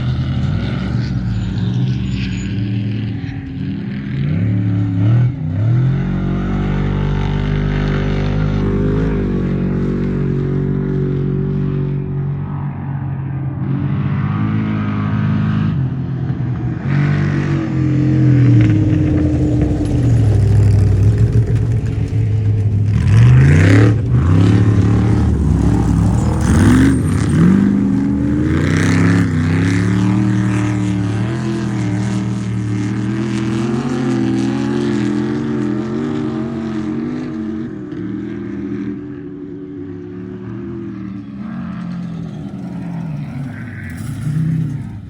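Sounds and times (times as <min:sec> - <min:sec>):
off-road vehicle engine revving: 0:00.0 - 0:12.6, 0:13.6 - 0:45.0.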